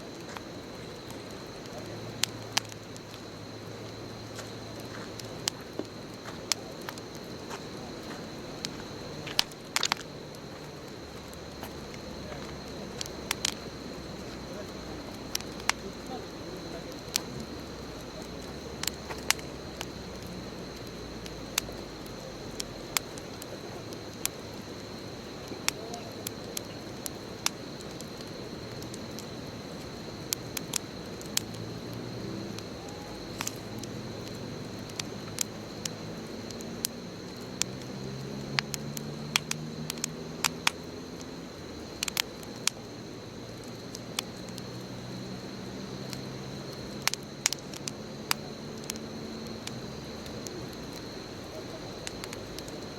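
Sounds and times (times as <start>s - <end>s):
bonfire crackling: 0.0s - 52.9s.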